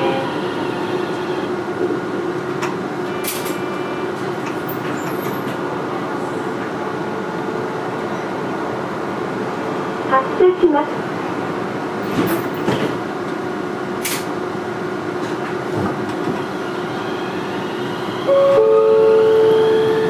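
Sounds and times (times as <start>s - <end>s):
tram equipment hum: 0.0s - 20.0s.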